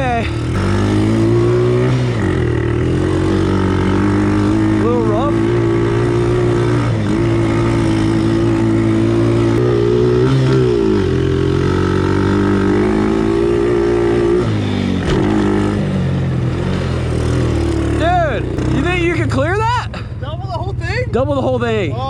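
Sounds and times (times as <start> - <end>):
vehicle engine revving: 0.0 - 19.5.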